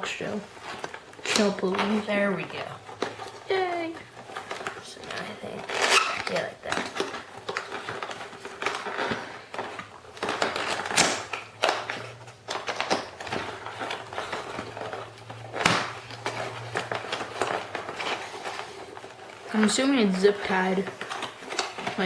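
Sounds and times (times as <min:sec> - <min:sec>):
cardboard and plastic packaging rustling: 0:00.0 - 0:22.0.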